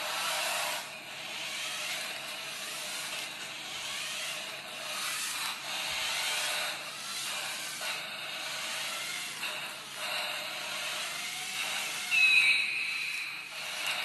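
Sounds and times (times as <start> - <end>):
toy vehicle motors whirring: 0.0 - 14.0.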